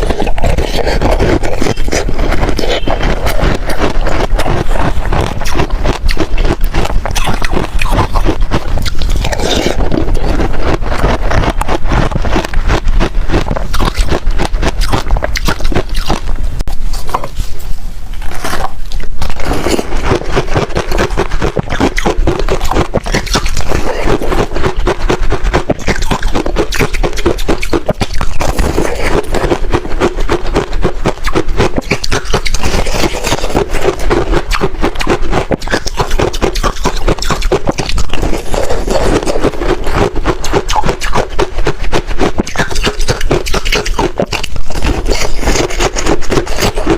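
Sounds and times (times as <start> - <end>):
crunching and chewing ice: 0.0 - 17.4, 18.2 - 46.9.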